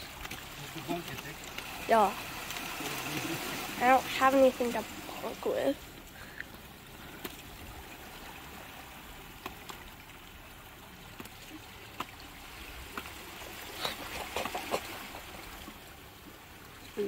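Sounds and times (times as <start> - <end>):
sea water trickling over rocks: 0.0 - 17.0.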